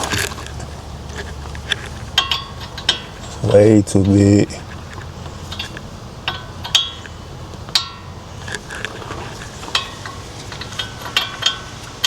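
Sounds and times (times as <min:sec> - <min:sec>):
metal tools clinking: 0:00.0 - 0:12.0.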